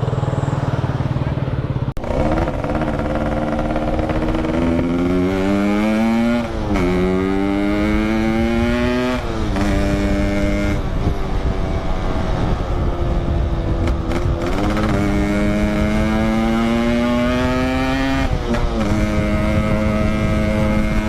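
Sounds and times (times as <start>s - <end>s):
low wind rumble: 0.0s - 21.0s
two-stroke motorcycle accelerating: 0.0s - 21.0s.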